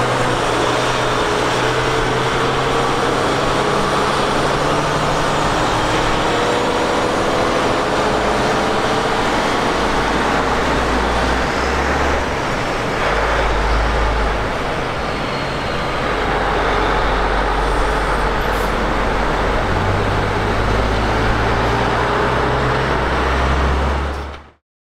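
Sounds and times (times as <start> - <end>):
truck engines rumbling: 0.0 - 24.6.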